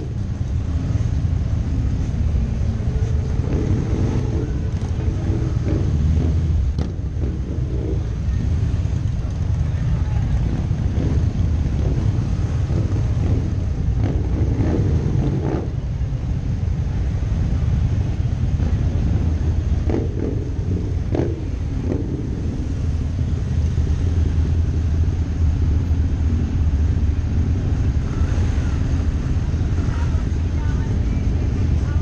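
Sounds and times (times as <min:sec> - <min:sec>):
motorcycles rumbling: 0:00.0 - 0:32.0.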